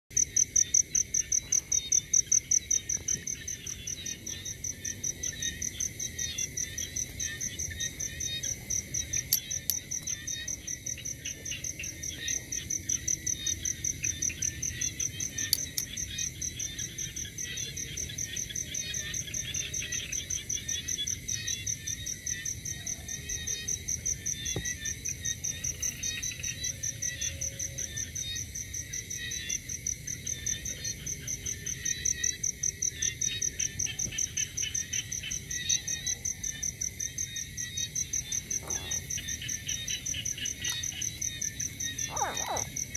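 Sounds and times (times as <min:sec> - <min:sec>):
frogs chirping: 0:00.1 - 0:42.9
insects trilling: 0:00.1 - 0:42.9.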